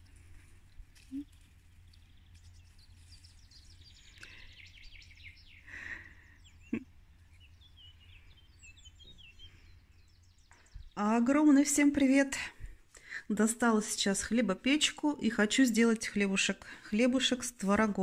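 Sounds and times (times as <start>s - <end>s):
birds chirping: 0.0s - 18.0s
low steady rumble: 0.0s - 18.0s.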